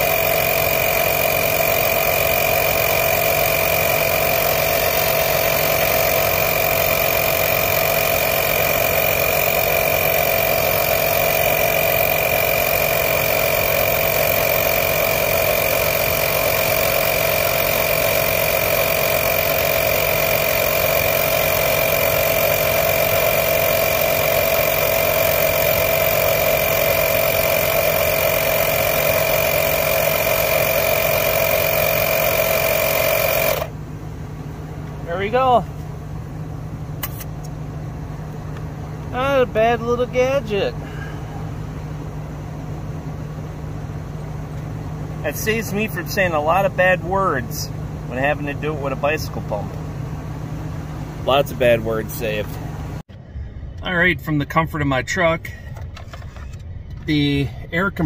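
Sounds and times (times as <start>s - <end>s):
air compressor running: 0.0s - 53.3s.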